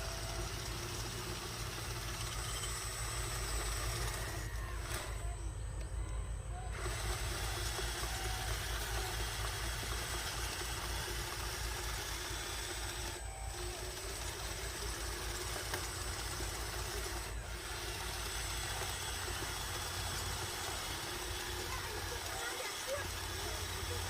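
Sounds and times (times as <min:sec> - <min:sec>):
model bulldozer low rumble: 0:00.0 - 0:24.0.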